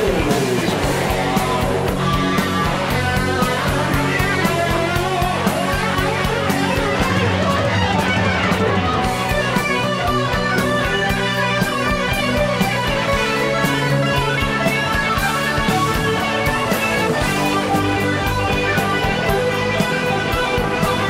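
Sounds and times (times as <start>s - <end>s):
bass line: 0.0s - 21.0s
drum kit beat: 0.0s - 21.0s
electric guitars: 0.0s - 21.0s.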